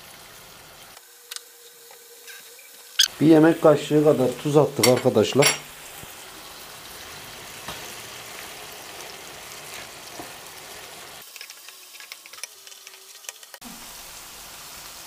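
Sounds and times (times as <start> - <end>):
chicken livers sizzling in a pan: 0.0 - 15.0.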